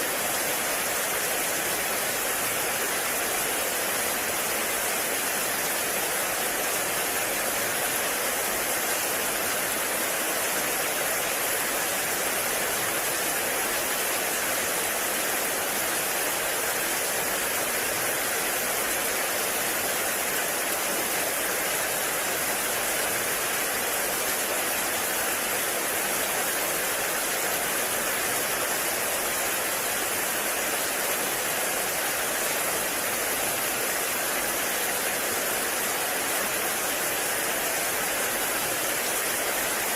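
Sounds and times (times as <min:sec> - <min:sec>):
heavy rain on forest: 0:00.0 - 0:39.9.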